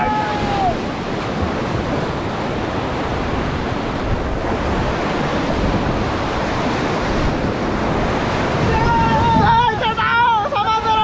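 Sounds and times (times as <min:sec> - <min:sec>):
whitewater rushing: 0:00.0 - 0:11.0.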